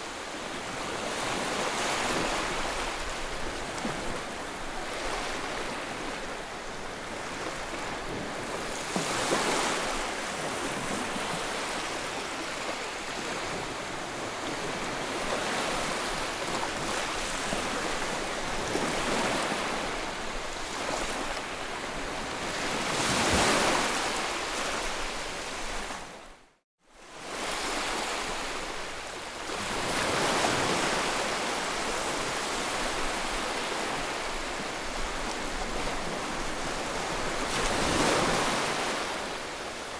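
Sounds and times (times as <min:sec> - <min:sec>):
ocean waves washing onto shore: 0:00.0 - 0:26.4, 0:27.0 - 0:39.9.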